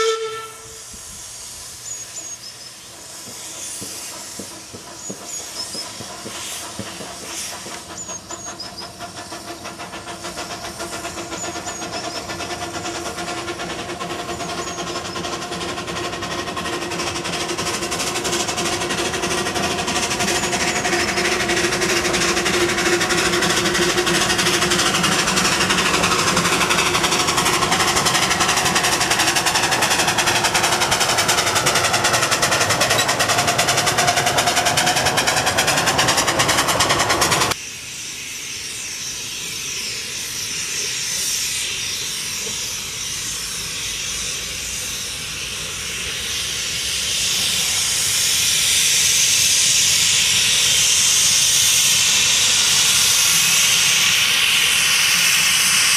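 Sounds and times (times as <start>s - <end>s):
steam hissing: 0.0s - 55.9s
steam locomotive exhaust beat: 0.0s - 55.9s.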